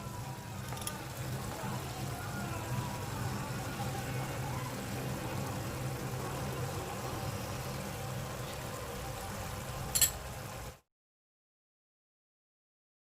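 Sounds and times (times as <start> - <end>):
low mechanical hum: 0.0 - 10.9.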